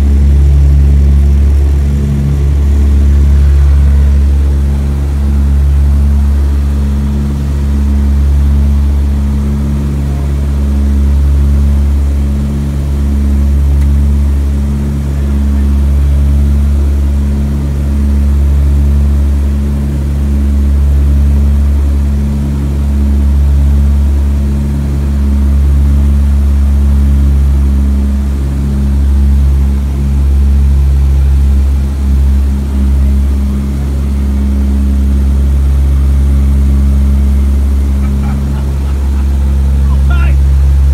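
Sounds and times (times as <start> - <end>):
propeller aircraft engines droning: 0.0 - 40.9.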